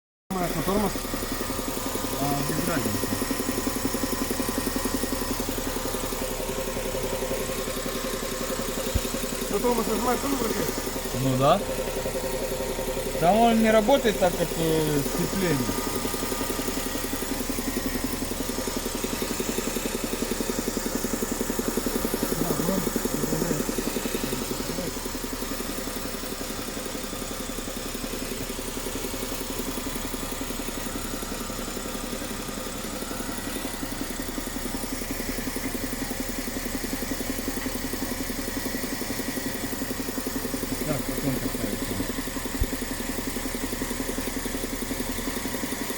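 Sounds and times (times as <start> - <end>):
car engine idling: 0.3 - 45.9
fast knocking from transmission: 0.3 - 45.9.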